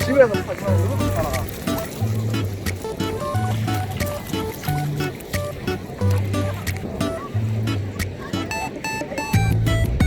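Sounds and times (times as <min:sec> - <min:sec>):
light background music with beat: 0:00.0 - 0:10.0.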